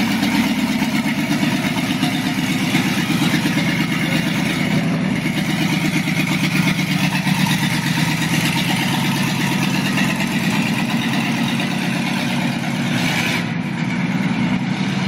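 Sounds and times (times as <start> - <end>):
pickup truck engine driving away: 0.0 - 15.0.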